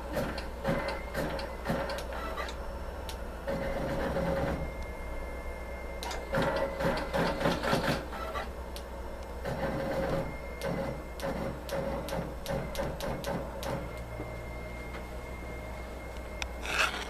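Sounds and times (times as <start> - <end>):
embroidery machine motor whine: 0.0 - 17.0.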